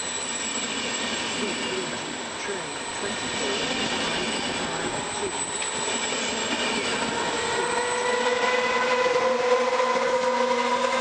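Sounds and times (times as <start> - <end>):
locomotive whine: 0.0 - 11.0
train rumbling past: 0.0 - 11.0.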